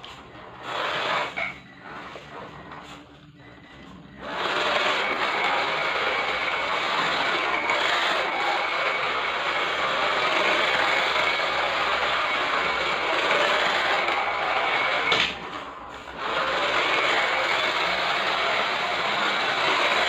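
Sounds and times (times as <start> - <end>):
rushing mechanical noise: 0.0 - 20.0
electric motor whine: 0.4 - 20.0.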